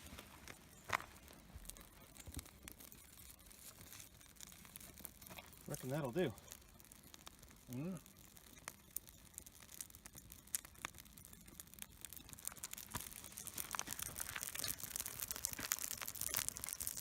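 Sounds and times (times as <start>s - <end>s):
dry wood crackling: 0.0s - 17.0s.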